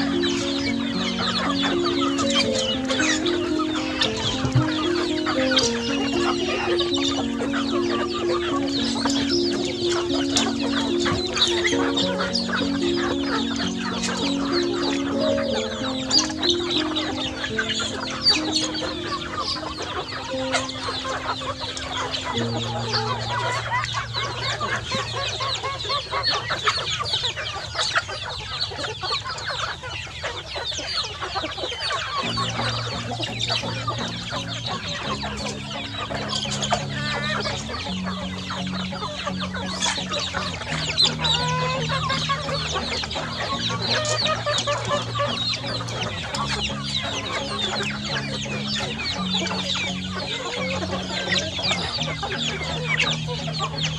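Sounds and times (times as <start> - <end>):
slow low background music: 0.0 - 26.8, 32.1 - 53.9
chickens calling: 0.0 - 53.9.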